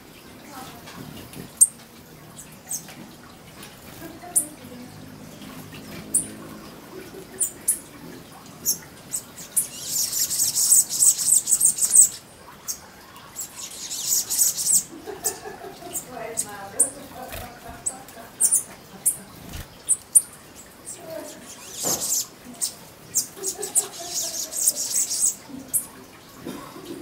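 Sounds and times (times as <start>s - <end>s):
hummingbirds twittering chatter: 1.2s - 26.2s.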